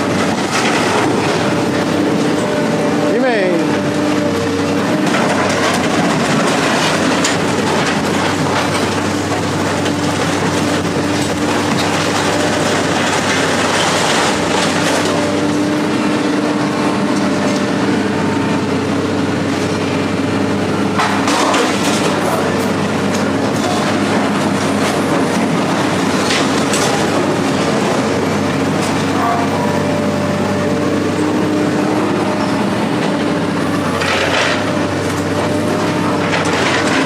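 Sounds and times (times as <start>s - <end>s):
heavy machinery rattling and clanking: 0.0s - 37.0s.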